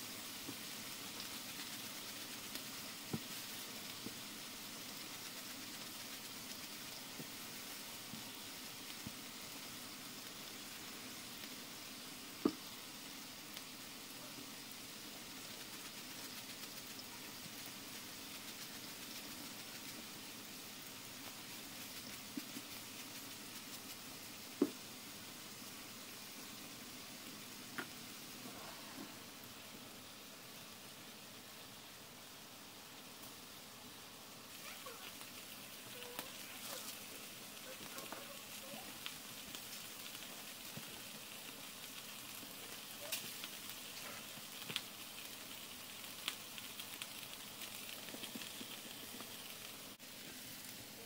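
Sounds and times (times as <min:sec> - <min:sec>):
burger patties sizzling on griddle: 0:00.0 - 0:51.0.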